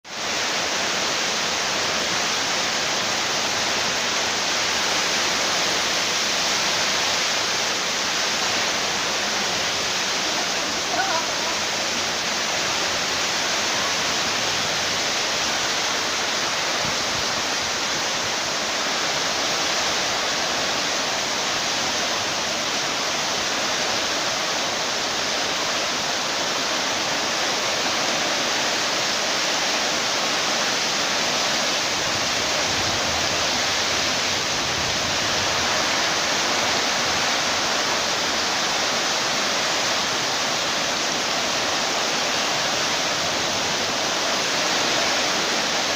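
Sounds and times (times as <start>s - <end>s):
rain on a tin roof: 0.0s - 45.9s.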